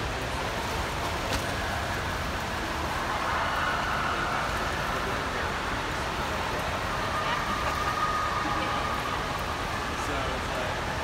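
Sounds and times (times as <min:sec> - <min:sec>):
pool hall ambience: 0:00.0 - 0:11.0
water splashing in pool: 0:00.0 - 0:11.0.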